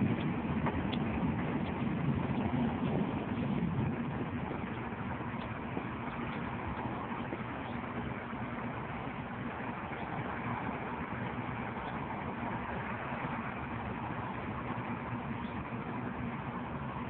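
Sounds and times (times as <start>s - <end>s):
car engine hum: 0.0s - 17.0s
surrounding traffic: 0.0s - 17.0s.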